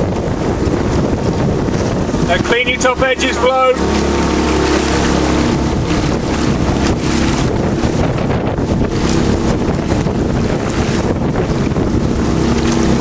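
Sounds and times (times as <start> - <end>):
outboard motor humming: 0.0 - 13.0
wind buffeting microphone: 0.0 - 13.0.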